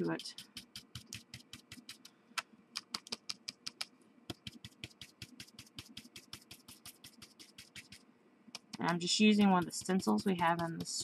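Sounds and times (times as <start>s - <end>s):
stipple brush tapping on cardstock: 0.0s - 2.1s, 2.8s - 8.0s, 8.6s - 11.0s.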